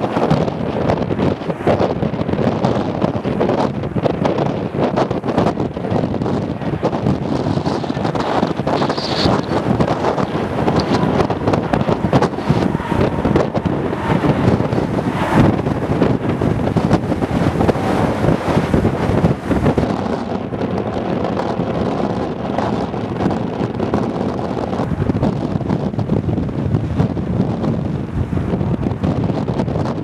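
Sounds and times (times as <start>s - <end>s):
jet engine noise: 0.0s - 30.0s
wind buffeting microphone: 0.0s - 30.0s.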